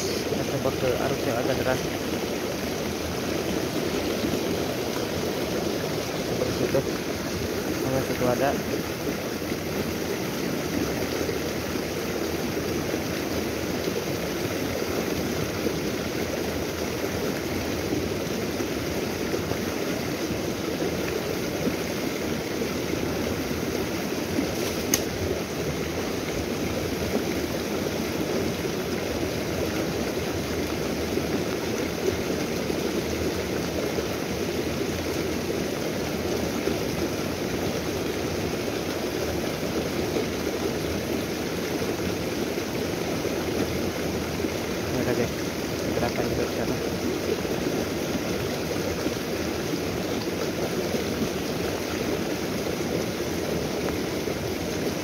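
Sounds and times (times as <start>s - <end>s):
fast-running stream: 0.0s - 55.0s.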